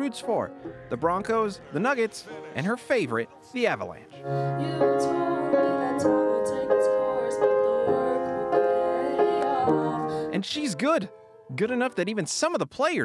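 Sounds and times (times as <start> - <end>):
piano chords played slowly: 0.0 - 12.1.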